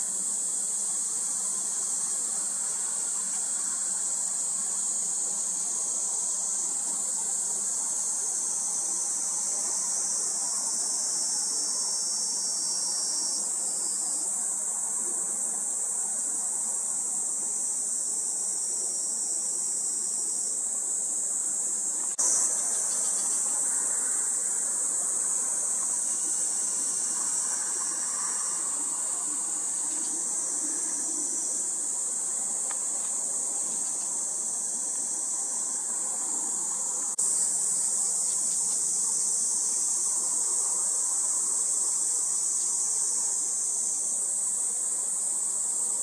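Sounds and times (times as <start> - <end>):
insects buzzing chorus: 0.0 - 46.0.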